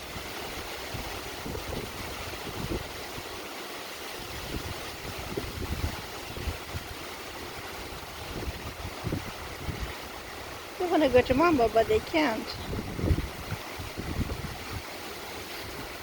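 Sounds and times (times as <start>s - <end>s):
lake water hiss: 0.0s - 16.0s
wind buffeting microphone: 0.0s - 16.0s.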